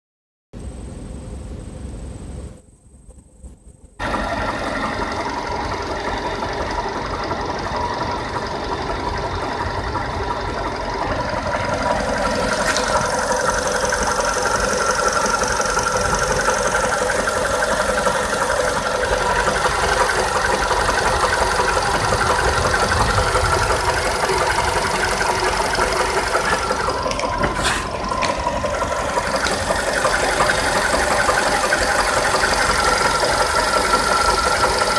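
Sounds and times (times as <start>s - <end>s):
car engine running: 0.6s - 34.9s
engine knocking: 3.0s - 34.9s.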